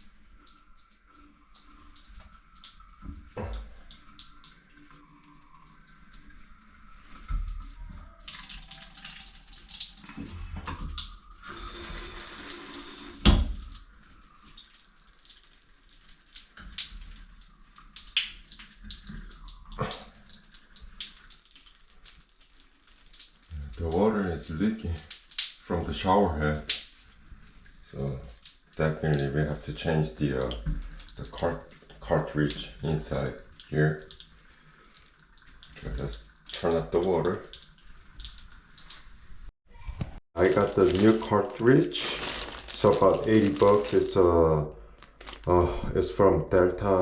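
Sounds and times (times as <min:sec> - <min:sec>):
water splashing and dripping: 0:00.0 - 0:45.6.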